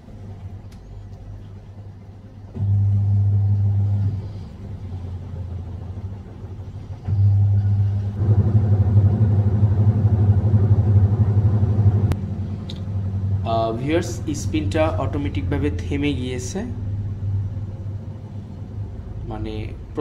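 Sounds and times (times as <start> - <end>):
washing machine spin cycle hum: 0.0 - 20.0.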